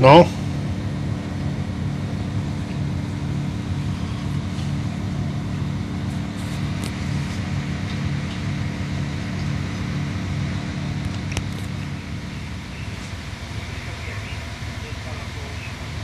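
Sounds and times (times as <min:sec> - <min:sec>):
train drive humming: 0:00.0 - 0:16.0.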